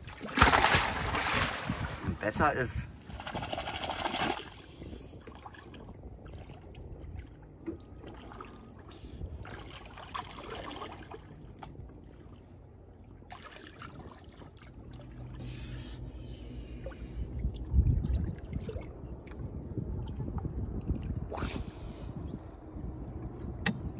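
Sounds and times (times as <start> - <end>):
water splashing and lapping: 0.0 - 23.9.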